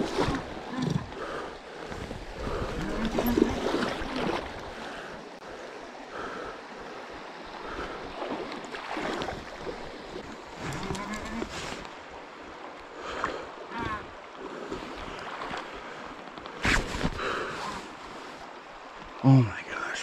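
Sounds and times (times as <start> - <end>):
river water rushing and splashing: 0.0 - 20.0.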